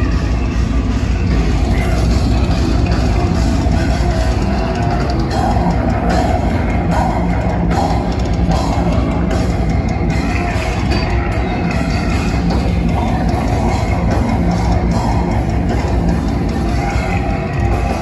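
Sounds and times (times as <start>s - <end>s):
distorted electric guitars: 0.0s - 18.0s
pounding drum kit: 0.0s - 18.0s.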